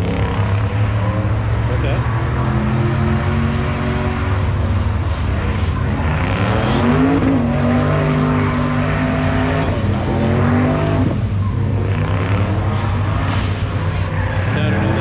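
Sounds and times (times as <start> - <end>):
car engine revving: 0.0 - 15.0
tires spinning: 0.0 - 15.0.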